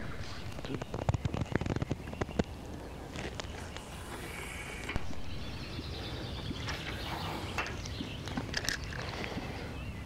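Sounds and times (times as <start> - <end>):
low background noise: 0.0 - 10.0
small birds chirping: 0.0 - 10.0.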